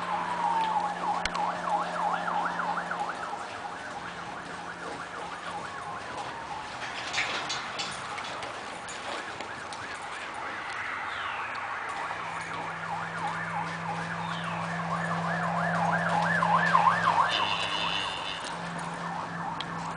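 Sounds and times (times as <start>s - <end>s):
siren yelping: 0.0s - 19.9s.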